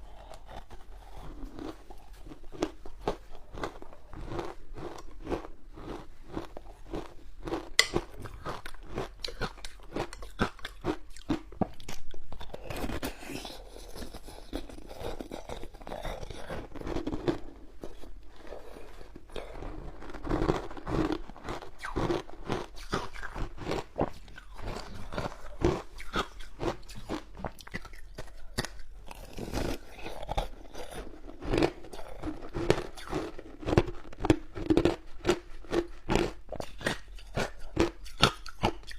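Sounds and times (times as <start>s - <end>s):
person crunching shaved ice: 0.0s - 38.9s.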